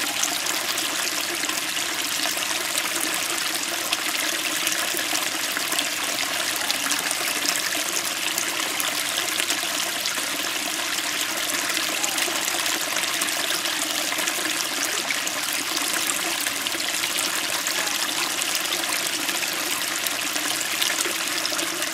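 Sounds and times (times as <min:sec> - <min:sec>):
stream babbling over rocks: 0:00.0 - 0:21.9.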